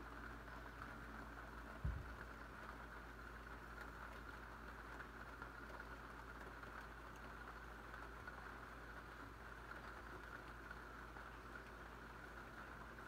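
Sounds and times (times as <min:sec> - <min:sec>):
faint room hum and hiss: 0:00.0 - 0:13.0.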